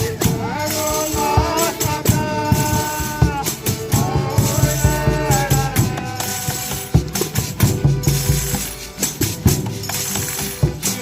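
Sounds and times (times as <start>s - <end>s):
low drum beats: 0.0s - 11.0s
rattling shakers: 0.0s - 11.0s
tambourine jingles: 0.0s - 11.0s.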